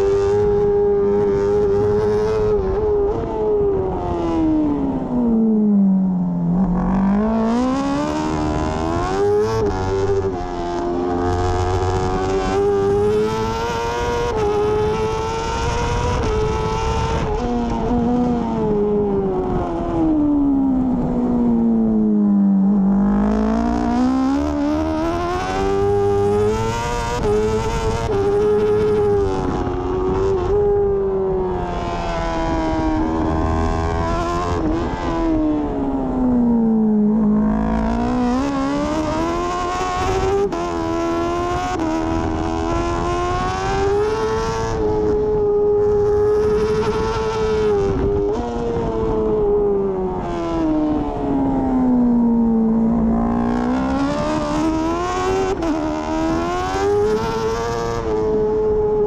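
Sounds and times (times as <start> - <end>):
motorcycle engine at racing speed: 0.0 - 59.0.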